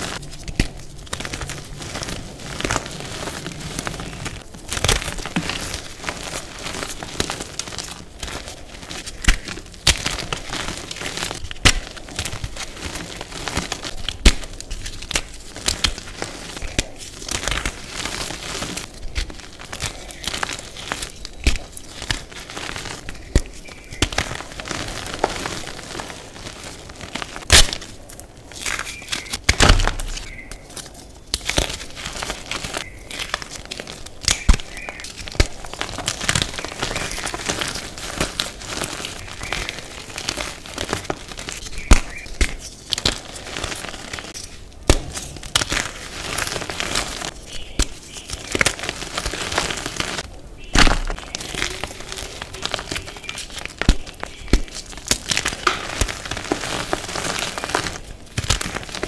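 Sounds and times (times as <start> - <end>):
chalk crumbling and snapping: 0.0 - 59.0.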